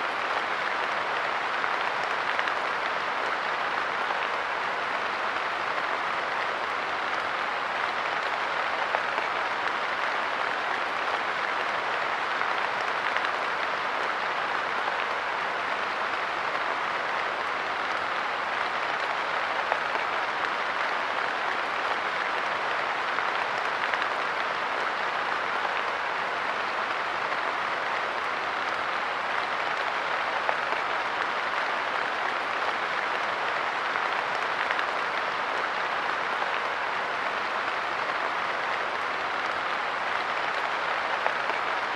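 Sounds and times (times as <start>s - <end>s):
louder rain drips: 0.0s - 41.9s.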